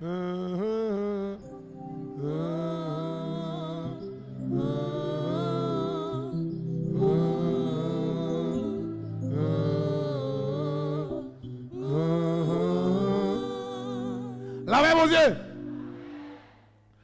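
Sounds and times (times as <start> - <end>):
man singing slow melody: 0.0 - 14.7
low instrumental chords: 1.4 - 16.4.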